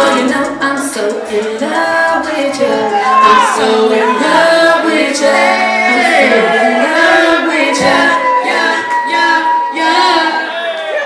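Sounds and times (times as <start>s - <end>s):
woman singing wordless melody: 0.0s - 10.5s.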